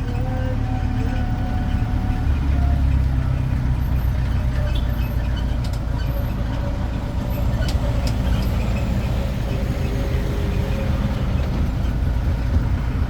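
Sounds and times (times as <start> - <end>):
road train engine rumbling: 0.0 - 13.0.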